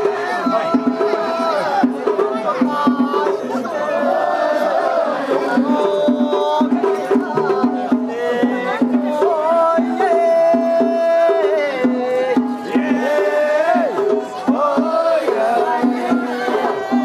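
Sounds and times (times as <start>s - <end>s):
drums beating: 0.0s - 17.0s.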